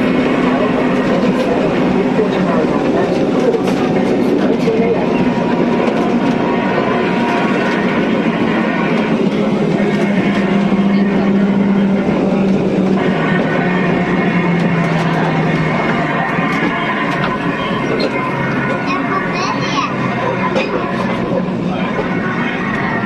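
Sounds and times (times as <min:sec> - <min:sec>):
tramcar rattling and rumbling: 0:00.0 - 0:23.0.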